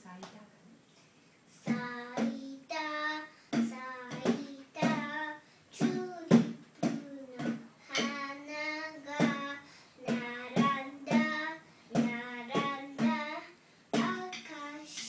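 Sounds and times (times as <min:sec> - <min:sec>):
girl singing: 0:01.5 - 0:15.0
stick tapping drum pads: 0:01.7 - 0:02.5, 0:03.5 - 0:15.0.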